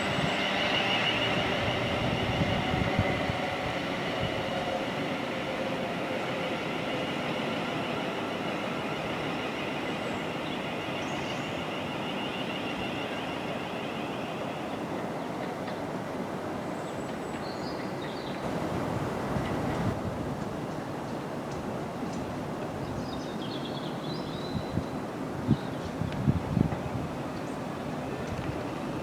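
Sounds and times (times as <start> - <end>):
train rumbling: 0.0 - 22.8, 24.9 - 29.0.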